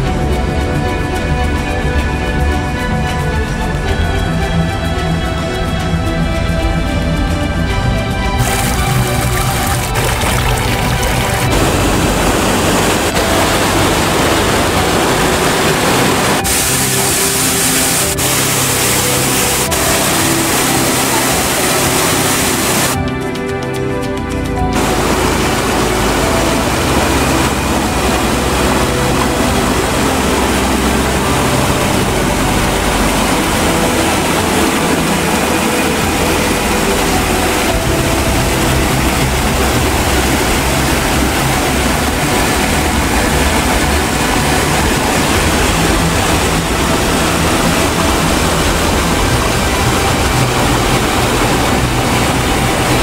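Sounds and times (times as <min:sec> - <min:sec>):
stream and waterfall over rocks: 0:00.0 - 0:53.0.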